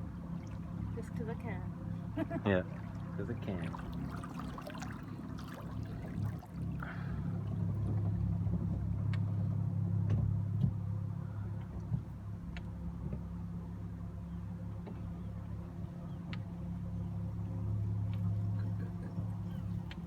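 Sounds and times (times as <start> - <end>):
electric boat motor humming: 0.0 - 20.0.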